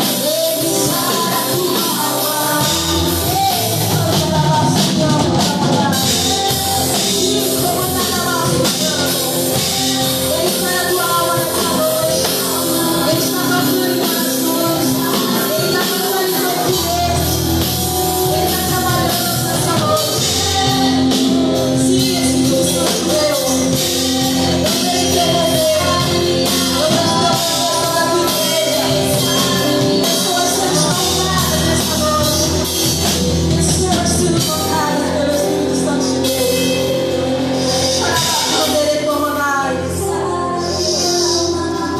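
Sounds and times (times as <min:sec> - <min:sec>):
church band playing: 0:00.0 - 0:41.9
people singing: 0:00.0 - 0:41.9.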